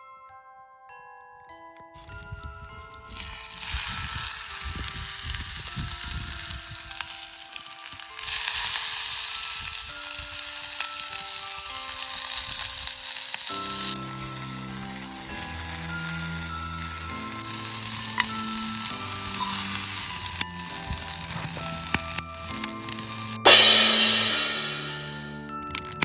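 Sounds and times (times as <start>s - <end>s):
mallet-like background music: 0.0s - 26.0s
food sizzling in a pan: 3.0s - 25.2s.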